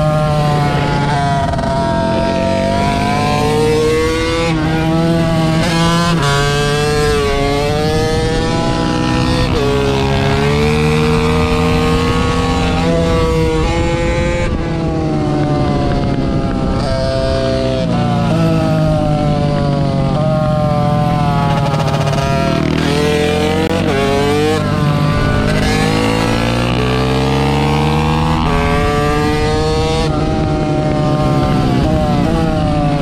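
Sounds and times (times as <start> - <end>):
small motorcycle engines revving: 0.0 - 33.0.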